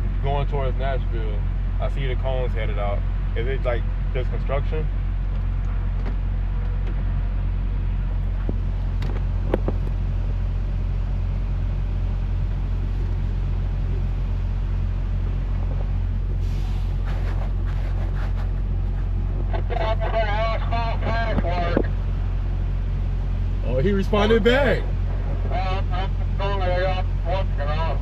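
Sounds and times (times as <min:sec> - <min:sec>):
road noise: 0:00.0 - 0:28.0
truck diesel engine drone: 0:00.0 - 0:28.0.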